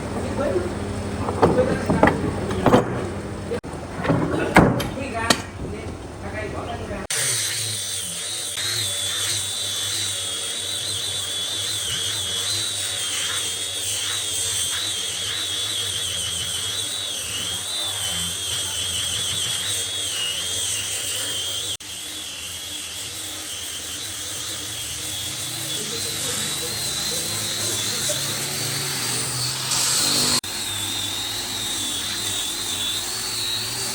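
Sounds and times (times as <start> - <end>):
electric power tool whining: 0.0 - 5.5, 7.0 - 33.9.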